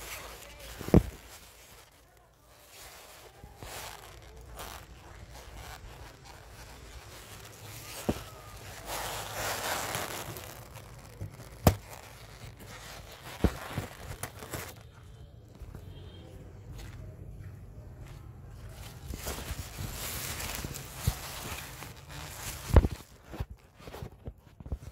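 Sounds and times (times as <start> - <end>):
plastic bags rustling: 0.0 - 14.9, 18.6 - 24.9.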